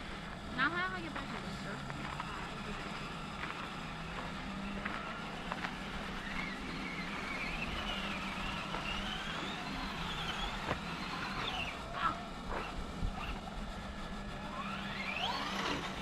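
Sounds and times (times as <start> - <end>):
low hum: 0.0 - 16.0
toy truck motor whining: 0.0 - 16.0.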